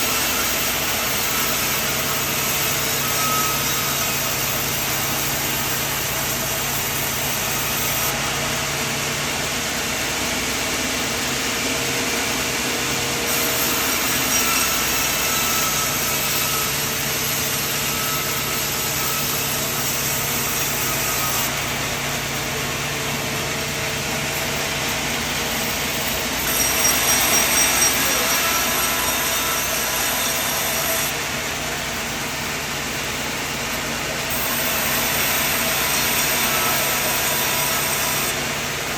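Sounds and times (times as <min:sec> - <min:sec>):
saw cutting through wood: 0:00.0 - 0:38.9
sawmill engine drone: 0:00.0 - 0:38.9.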